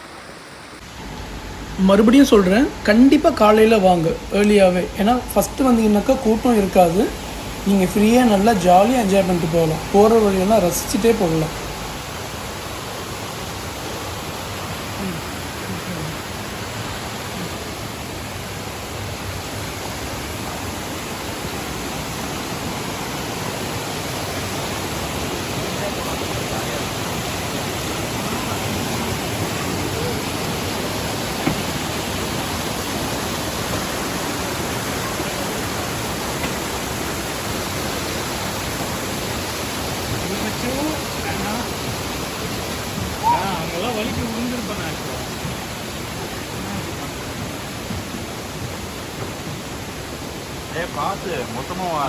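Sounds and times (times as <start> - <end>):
steady rushing noise: 0.0 - 50.1.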